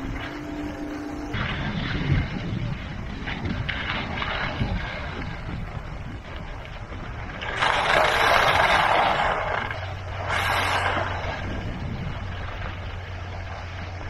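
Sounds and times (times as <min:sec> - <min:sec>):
low steady hum: 0:00.0 - 0:14.0
wind rumble on microphone: 0:00.0 - 0:14.0
skis scraping over packed snow: 0:01.4 - 0:14.0.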